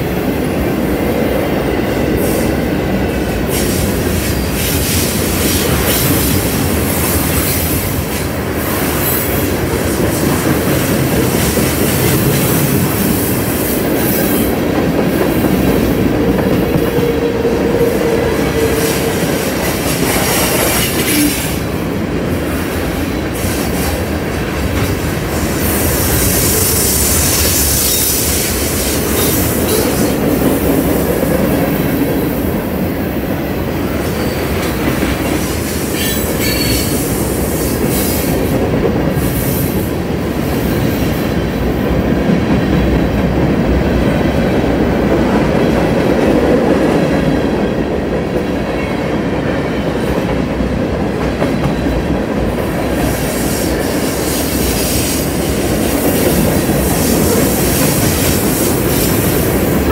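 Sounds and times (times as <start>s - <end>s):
train wheels rumbling on rail: 0.0s - 59.9s
clickety-clack over rail joints: 3.0s - 59.9s.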